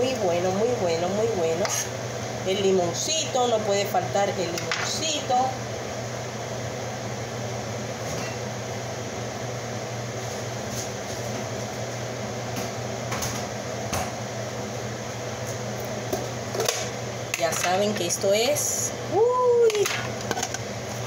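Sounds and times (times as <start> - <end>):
appliance or fan humming: 0.0 - 21.0.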